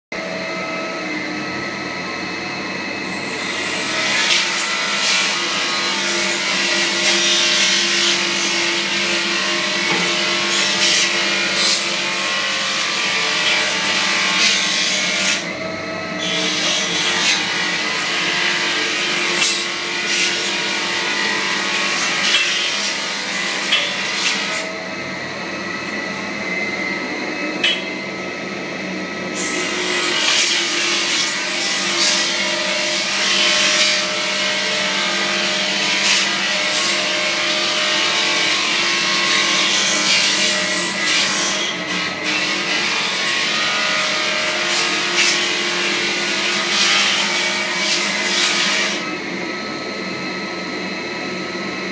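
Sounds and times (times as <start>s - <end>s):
floor sander motor whine: 0.2s - 51.9s.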